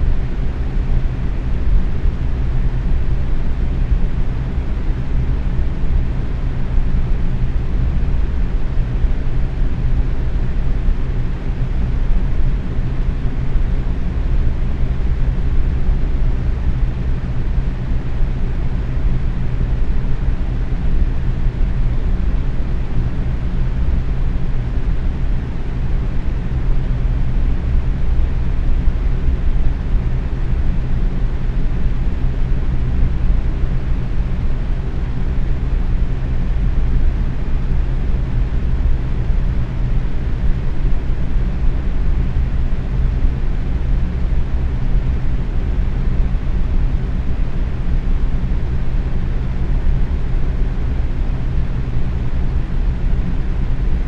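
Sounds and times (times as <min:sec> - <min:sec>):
box fan running: 0:00.0 - 0:54.0.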